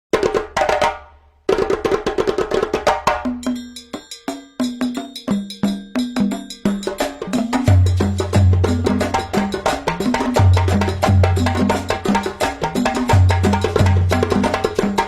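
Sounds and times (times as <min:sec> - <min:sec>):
wood block percussion: 0:00.1 - 0:15.0.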